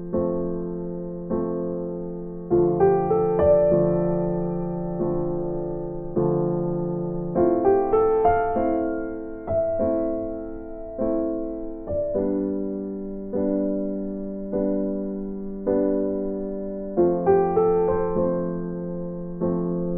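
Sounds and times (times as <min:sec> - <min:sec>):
slow piano music: 0:00.0 - 0:19.9.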